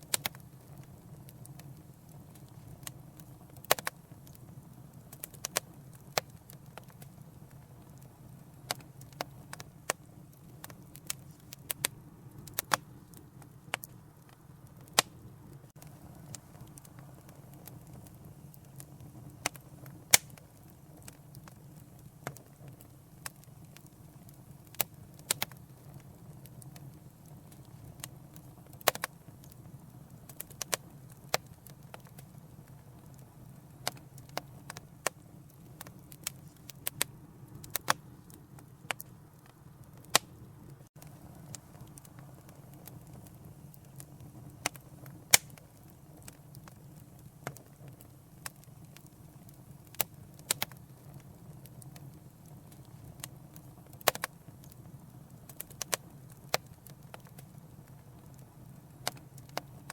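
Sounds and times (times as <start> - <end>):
low rumble of flames: 0.0 - 59.9
wood fire popping and snapping: 0.0 - 59.9.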